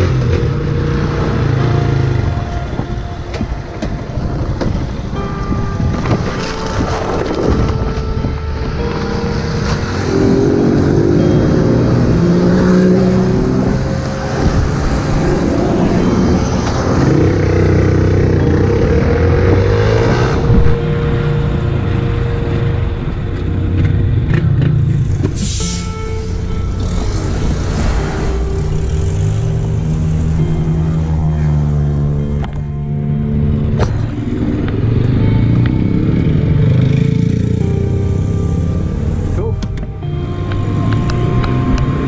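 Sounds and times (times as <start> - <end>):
motorcycle engine revving: 0.0 - 42.0
wind and road noise: 0.0 - 42.0.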